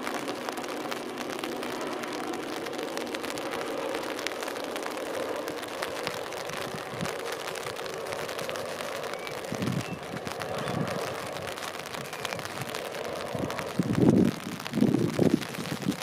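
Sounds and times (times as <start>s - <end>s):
distant train rumble: 0.0s - 16.0s.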